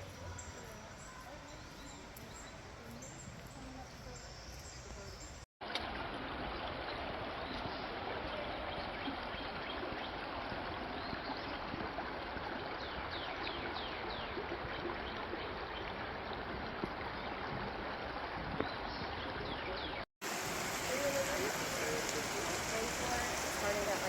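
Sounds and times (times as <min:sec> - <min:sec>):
stream flowing: 0:00.0 - 0:24.0.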